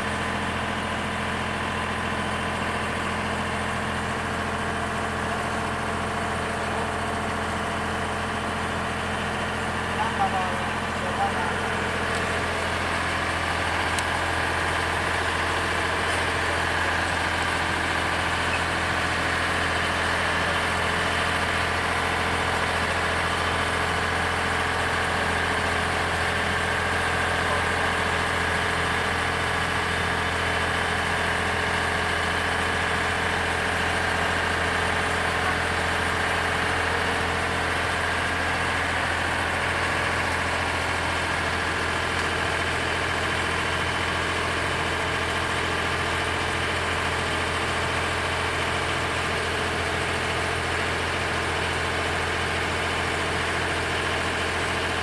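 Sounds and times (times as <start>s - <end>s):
boat engine droning: 4.9s - 50.7s.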